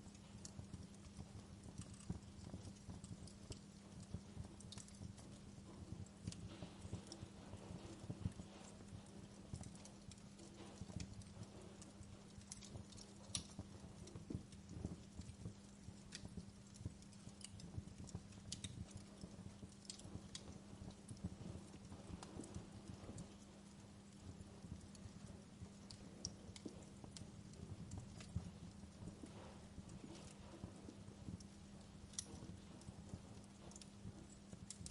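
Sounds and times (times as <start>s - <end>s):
faint low hum: 0.0s - 34.9s
wood fire crackling: 0.0s - 34.9s.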